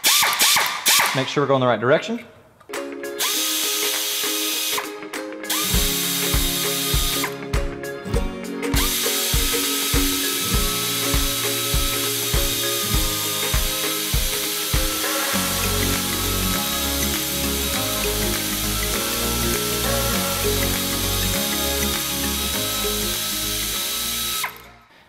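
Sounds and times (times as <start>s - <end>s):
air ratchet drilling: 0.0s - 1.2s, 3.2s - 4.9s, 5.5s - 7.3s, 8.8s - 24.8s
background music: 2.7s - 25.0s.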